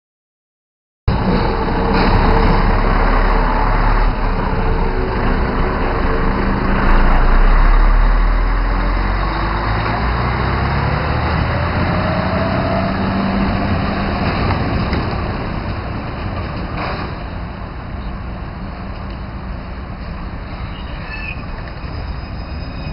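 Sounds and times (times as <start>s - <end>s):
tram equipment humming: 1.1s - 22.9s.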